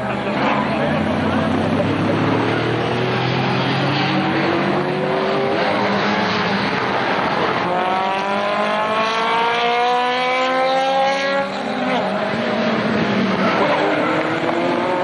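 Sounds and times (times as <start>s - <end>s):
racing cars passing at full throttle: 0.0s - 15.0s
high-revving engine accelerating: 0.2s - 15.0s.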